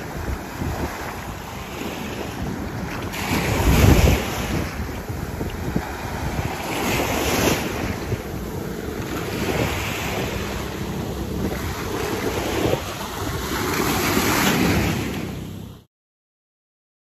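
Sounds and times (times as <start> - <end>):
wind buffeting microphone: 0.0 - 15.7
sea waves breaking on shore: 0.0 - 15.9.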